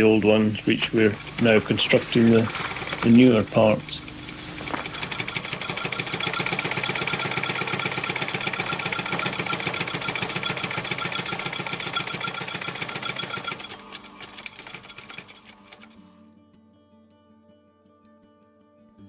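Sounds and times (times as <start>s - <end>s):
industrial sewing machine stitching: 0.0s - 16.0s.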